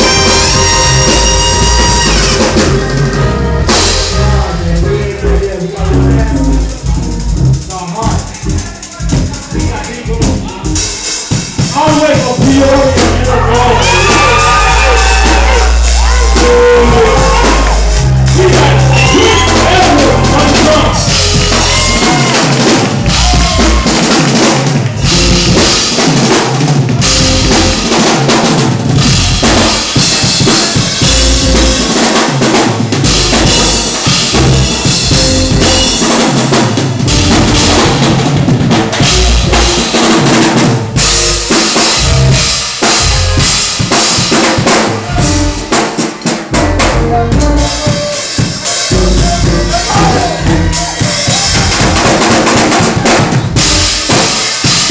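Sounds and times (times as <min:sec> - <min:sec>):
loud drum-driven music: 0:00.0 - 0:54.9.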